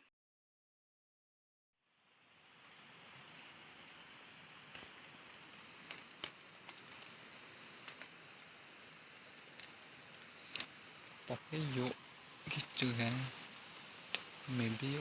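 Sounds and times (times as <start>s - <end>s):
faint steady hiss: 1.8s - 15.0s.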